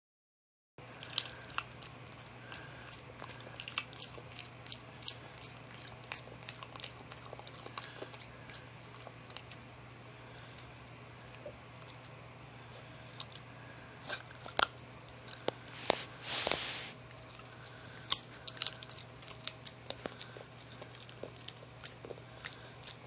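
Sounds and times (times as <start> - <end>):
dog crunching carrot: 0.8 - 9.6, 12.8 - 23.0.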